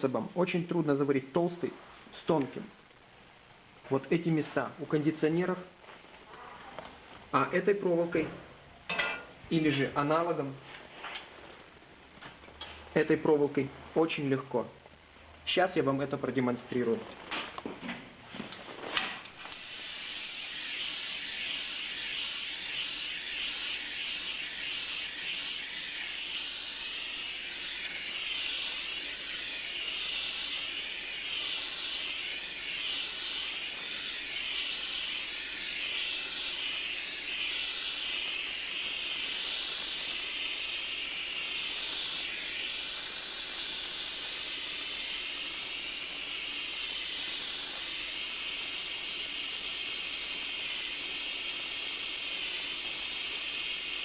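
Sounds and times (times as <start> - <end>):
gas torch flame hissing: 4.0 - 54.0.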